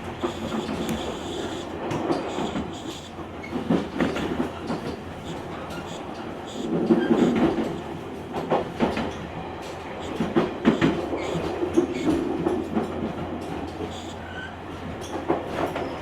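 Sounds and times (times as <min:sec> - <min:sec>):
train running rumble: 0:00.0 - 0:16.0
train wheels clacking over rail joints: 0:00.0 - 0:16.0.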